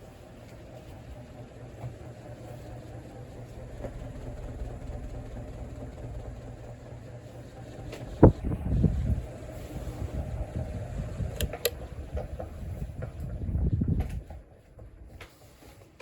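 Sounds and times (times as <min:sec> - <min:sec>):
ceiling fan motor hum: 0:00.0 - 0:16.0
rumbling handling noise: 0:01.8 - 0:16.0.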